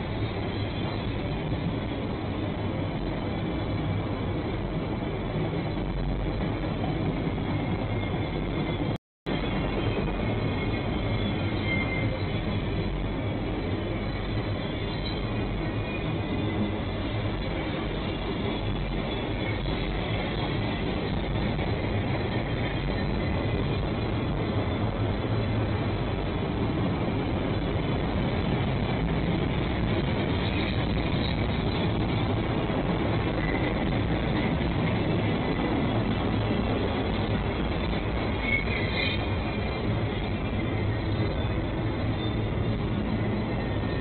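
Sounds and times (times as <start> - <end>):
train wheels on track: 0.0 - 44.0.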